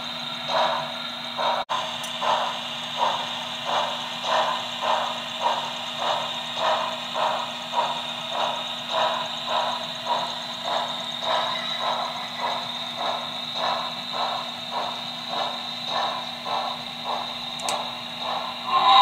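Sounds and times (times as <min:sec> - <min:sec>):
steam chuffing: 0:00.0 - 0:19.0.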